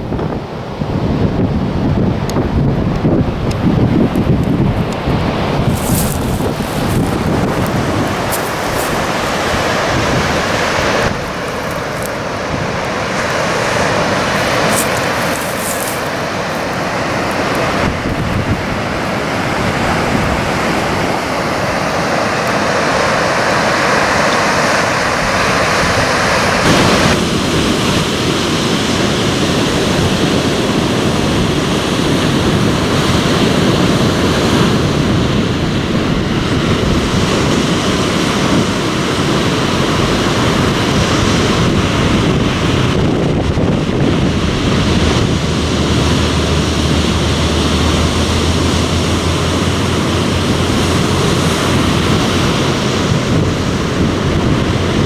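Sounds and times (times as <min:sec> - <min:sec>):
surf breaking on beach: 0:00.0 - 0:55.0
wind buffeting microphone: 0:00.0 - 0:55.0.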